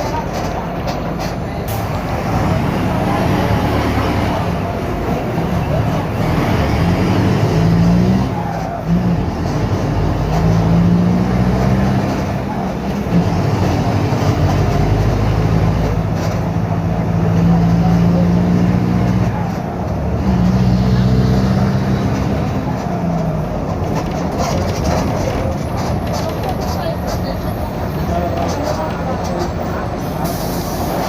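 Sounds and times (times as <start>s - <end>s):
diesel bus engine running: 0.0s - 31.0s.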